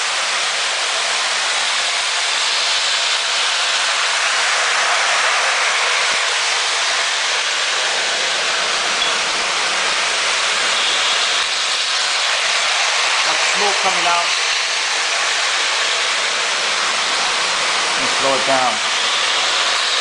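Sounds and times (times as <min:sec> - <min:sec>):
toy train running on track: 0:00.0 - 0:20.0.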